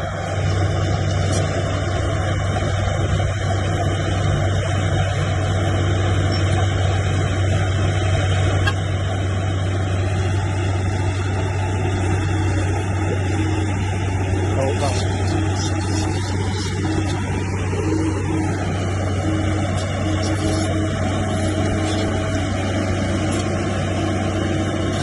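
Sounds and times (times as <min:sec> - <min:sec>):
heavy machinery diesel engine: 0:00.0 - 0:25.0.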